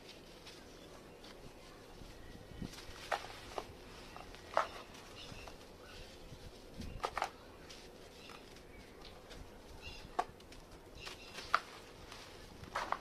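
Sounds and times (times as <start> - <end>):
baked sand chunks cracking: 0.0 - 13.0.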